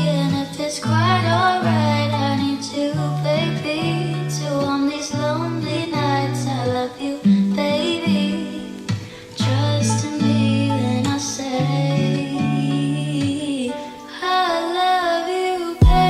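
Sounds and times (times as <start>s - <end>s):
plucked guitar: 0.0s - 16.0s
woman singing: 0.0s - 16.0s.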